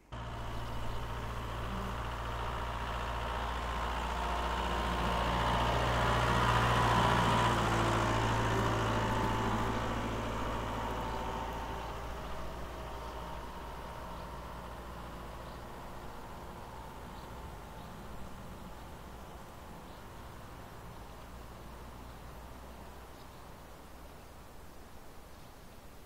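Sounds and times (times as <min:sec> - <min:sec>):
tractor engine drone: 0:00.0 - 0:25.1.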